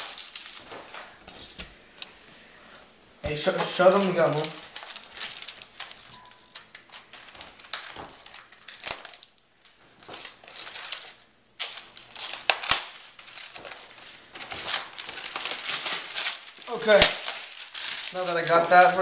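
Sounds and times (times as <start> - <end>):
packaging crinkling: 0.0 - 1.8, 3.3 - 19.0.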